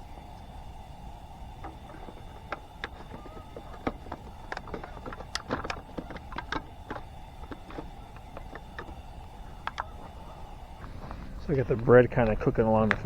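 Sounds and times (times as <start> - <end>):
campfire crackling and popping: 0.1 - 13.0.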